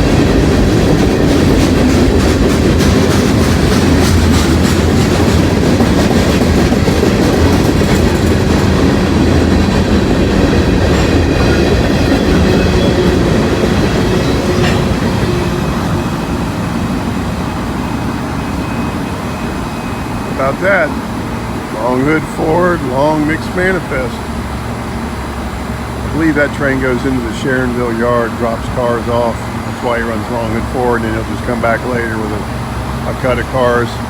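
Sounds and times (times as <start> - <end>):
freight train rolling past: 0.0 - 34.0
wheels clacking over rail joints: 0.0 - 34.0.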